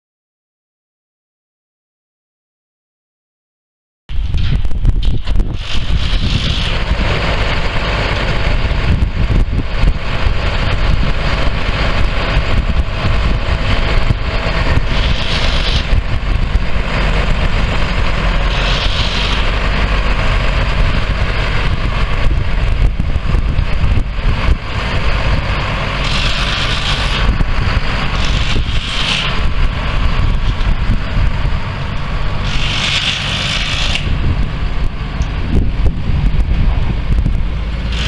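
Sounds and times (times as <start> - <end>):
wind rumbling on microphone: 4.1 - 38.0
diesel engine idling: 5.4 - 38.0.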